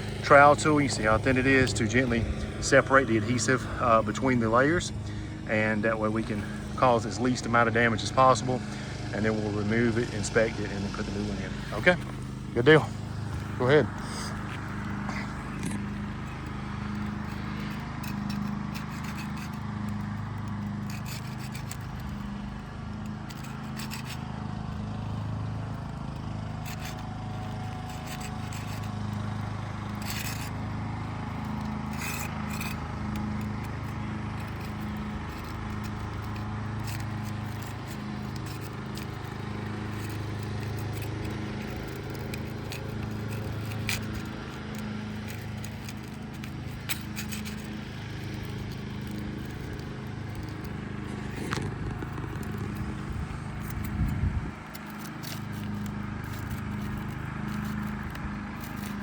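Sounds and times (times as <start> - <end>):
trowel scraping shingles: 0.0 - 59.0.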